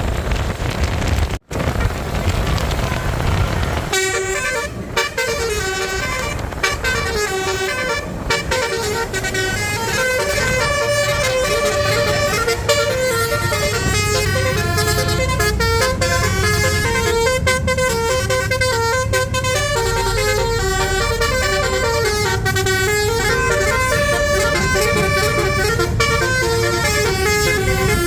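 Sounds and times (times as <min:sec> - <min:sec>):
steady low rumble: 0:00.0 - 0:28.0
musical bus horn playing melody: 0:03.9 - 0:28.0.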